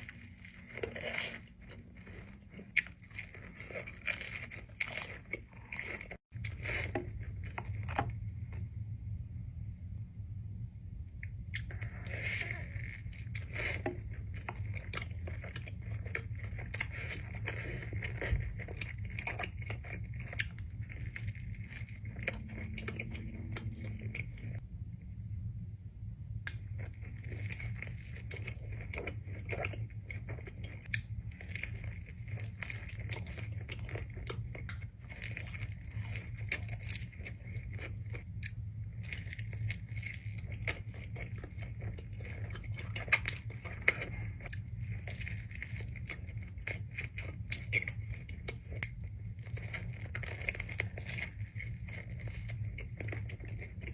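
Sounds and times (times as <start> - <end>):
crunching and chewing crisp food: 0.0 - 8.8, 11.2 - 24.6, 26.5 - 53.9
steady low hum: 0.0 - 53.9.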